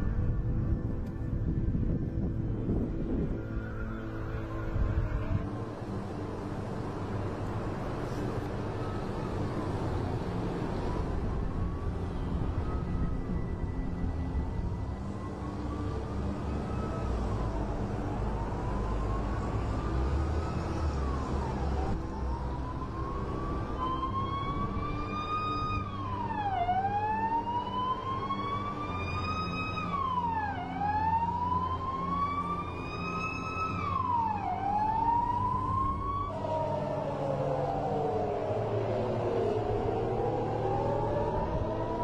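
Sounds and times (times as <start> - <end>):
wailing siren: 0.0 - 42.0.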